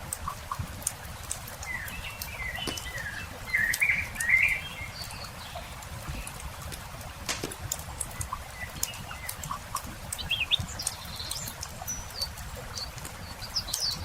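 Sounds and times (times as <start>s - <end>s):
campfire crackling: 0.0s - 14.0s
small birds chirping: 0.0s - 14.0s.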